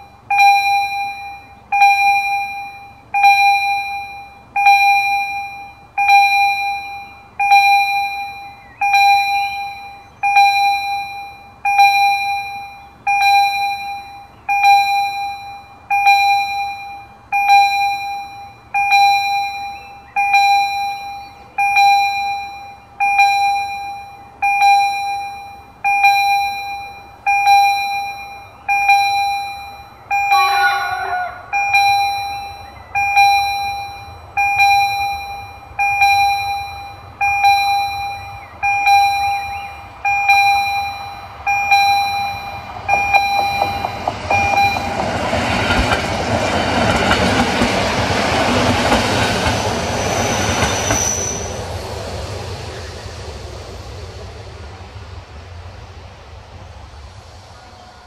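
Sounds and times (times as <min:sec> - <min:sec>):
level crossing warning bell: 0:00.0 - 0:51.7.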